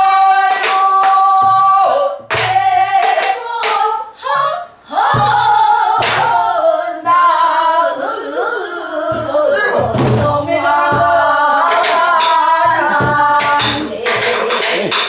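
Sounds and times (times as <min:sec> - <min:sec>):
women singing folk song: 0:00.0 - 0:15.0.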